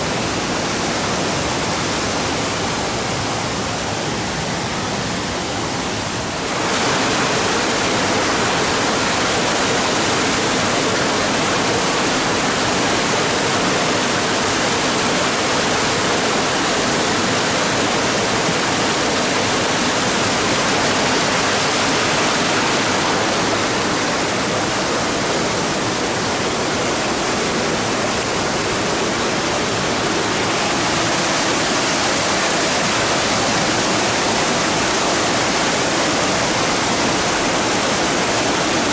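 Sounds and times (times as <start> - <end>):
waterfall splashing into a pool: 0.0 - 38.9.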